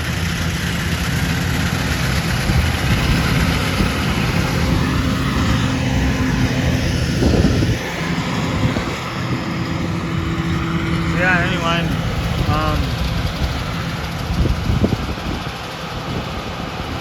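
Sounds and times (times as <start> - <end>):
dense rumbling noise: 0.0 - 17.0
vehicle engine running: 0.0 - 17.0.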